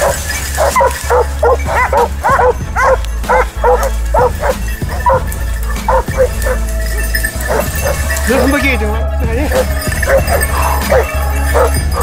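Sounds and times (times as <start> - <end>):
hounds barking rapidly: 0.0 - 8.8, 9.5 - 12.0.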